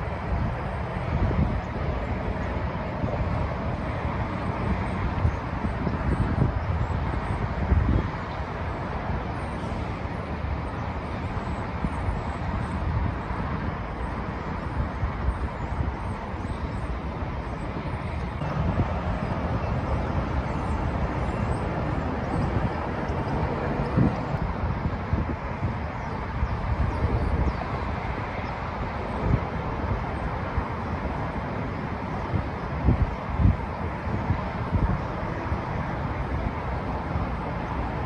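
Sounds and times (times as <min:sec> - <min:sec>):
traffic rumble and hiss: 0:00.0 - 0:38.0.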